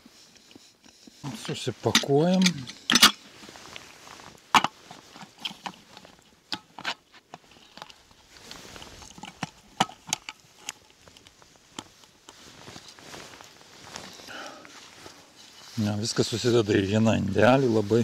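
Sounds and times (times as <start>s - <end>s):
camp cooking gear clattering: 0.5s - 18.0s.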